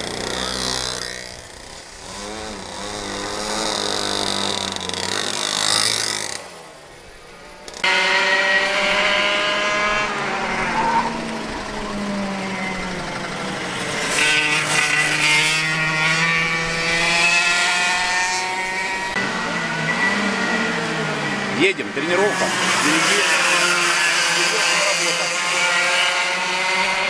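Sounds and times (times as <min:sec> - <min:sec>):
kart engines racing: 0:00.0 - 0:27.0.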